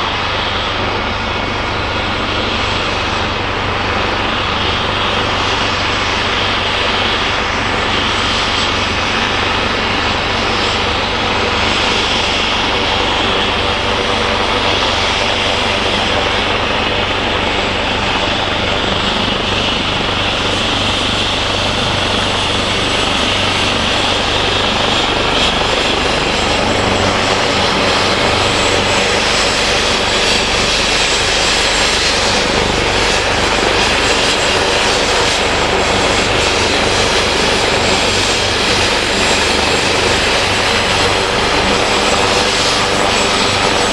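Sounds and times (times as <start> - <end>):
helicopter engine and rotor: 0.0 - 43.9.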